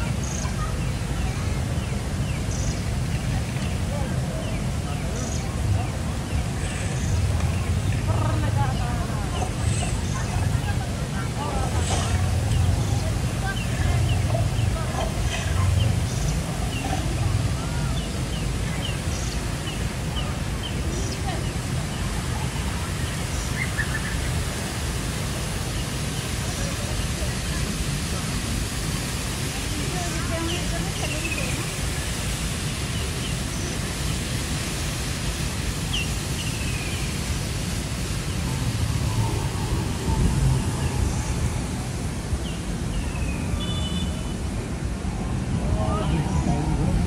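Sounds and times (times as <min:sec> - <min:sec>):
water cascading down rocks: 0:00.0 - 0:47.0.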